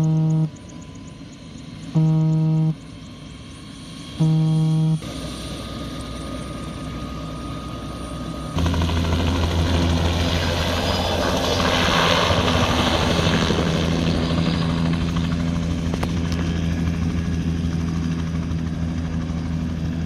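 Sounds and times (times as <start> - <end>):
helicopter rotor and turbine: 0.0 - 20.0.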